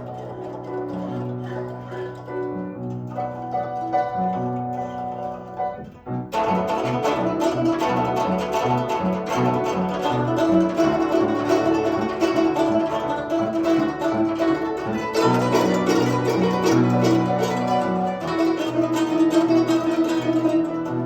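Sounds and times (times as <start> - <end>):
zither playing plucked notes: 0.0 - 21.0.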